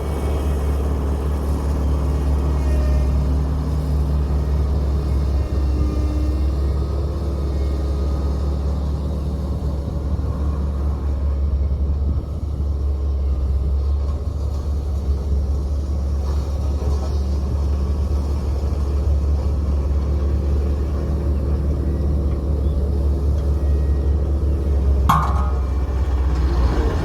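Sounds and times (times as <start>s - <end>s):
diesel engine rumbling: 0.0s - 27.0s.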